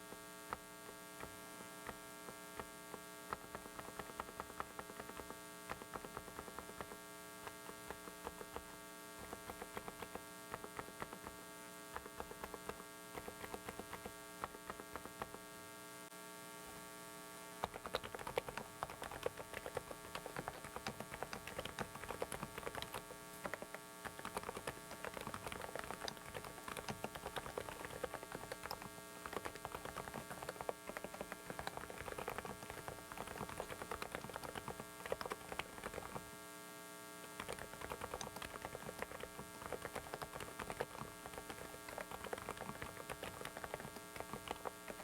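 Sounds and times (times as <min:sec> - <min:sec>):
electrical hum: 0:00.0 - 0:45.0
mechanical keyboard typing: 0:01.2 - 0:15.5, 0:17.6 - 0:36.3, 0:37.2 - 0:45.0.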